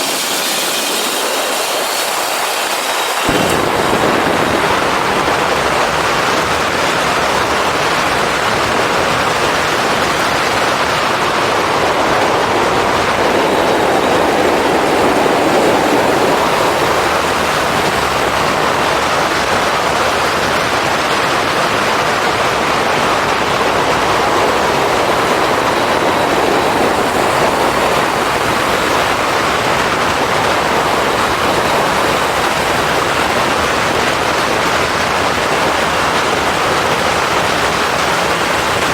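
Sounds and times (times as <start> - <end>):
motorcycle engine: 0.0 - 38.9
wind rush over microphone: 0.0 - 38.9.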